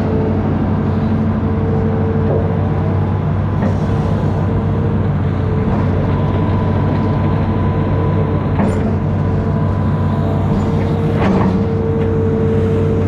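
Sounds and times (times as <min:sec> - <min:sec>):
diesel engine running: 0:00.0 - 0:13.0
steady whine: 0:00.0 - 0:13.0.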